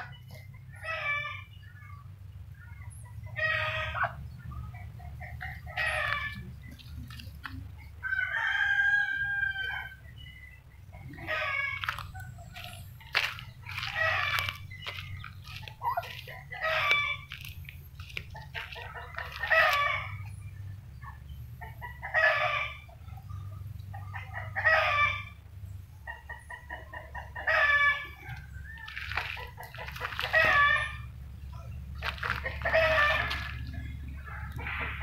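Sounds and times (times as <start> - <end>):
roosters crowing: 0.0 - 1.6, 3.3 - 35.0
low steady hum: 0.0 - 35.0.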